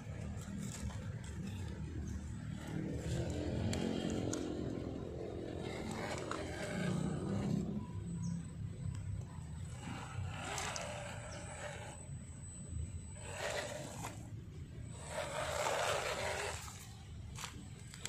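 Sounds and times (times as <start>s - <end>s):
rc car motor whining: 0.0s - 18.0s.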